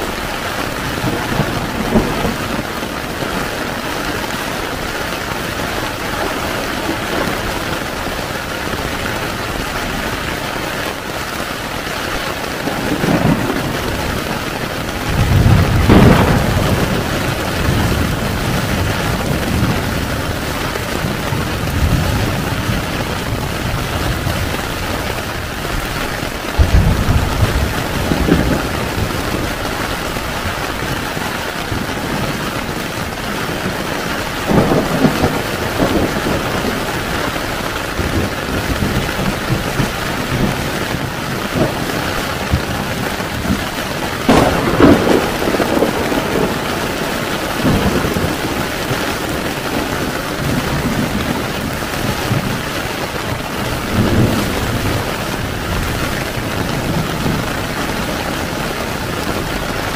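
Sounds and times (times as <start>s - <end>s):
thunder rolling: 0.0s - 10.2s, 12.2s - 59.9s
heavy rain on a tent: 0.0s - 59.9s.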